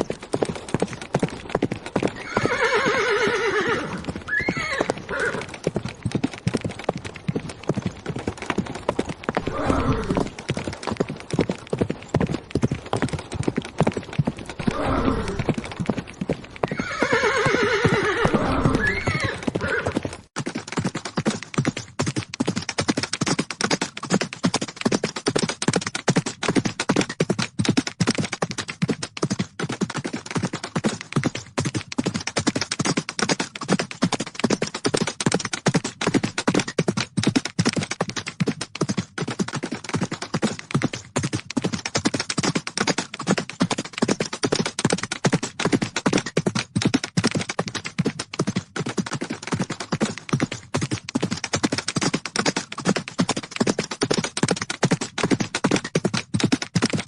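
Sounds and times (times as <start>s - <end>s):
horses galloping: 0.0s - 57.0s.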